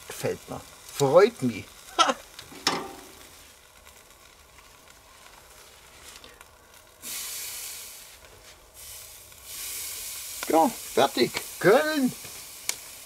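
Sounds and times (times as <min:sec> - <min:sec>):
bacon hissing on hot grate: 0:00.0 - 0:13.0
meat sizzling on a grill: 0:00.0 - 0:13.0.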